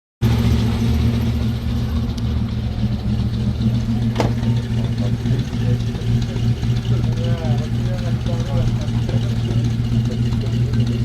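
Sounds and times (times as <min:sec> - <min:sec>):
car engine idling: 0:00.2 - 0:11.0.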